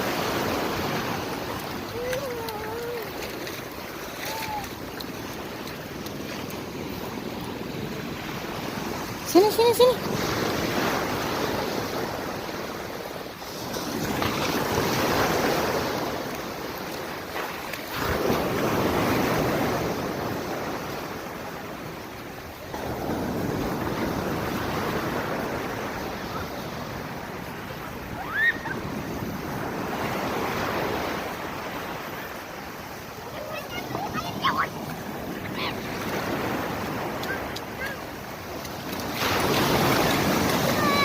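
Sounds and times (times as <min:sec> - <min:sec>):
sea waves breaking on beach: 0:00.0 - 0:41.0.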